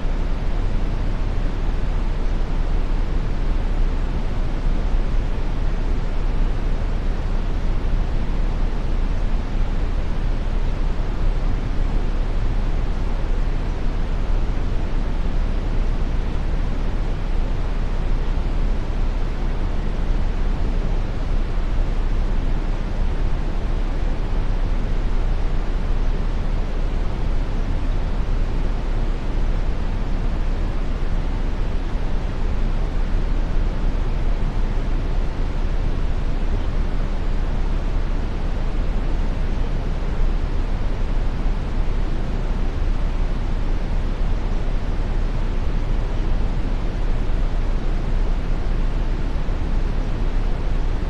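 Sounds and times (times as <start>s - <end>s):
brown noise: 0.0s - 51.0s.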